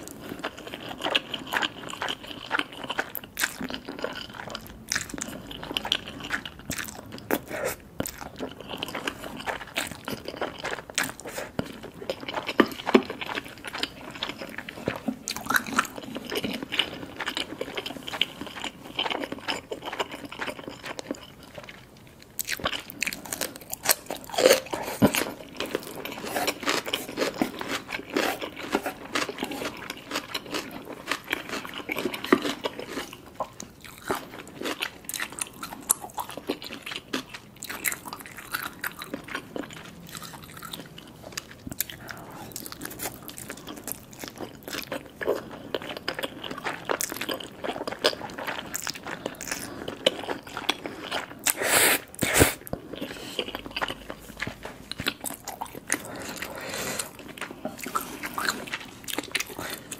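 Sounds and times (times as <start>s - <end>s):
crunching and chewing cucumber: 0.0s - 59.9s
soft chewing: 0.0s - 59.9s.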